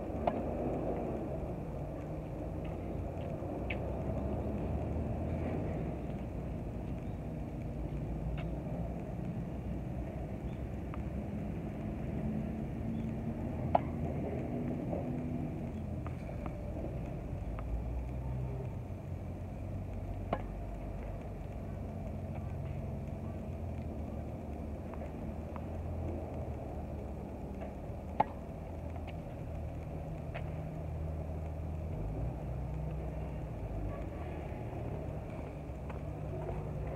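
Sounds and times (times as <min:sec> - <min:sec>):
low outdoor rumble: 0:00.0 - 0:36.9
steady low hum: 0:00.0 - 0:36.9
faint ticks: 0:01.4 - 0:11.2, 0:15.0 - 0:36.9.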